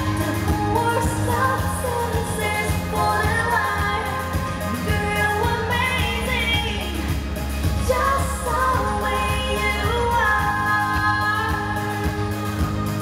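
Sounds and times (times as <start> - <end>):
steady bass: 0.0 - 13.0
woman singing pop song: 0.0 - 13.0.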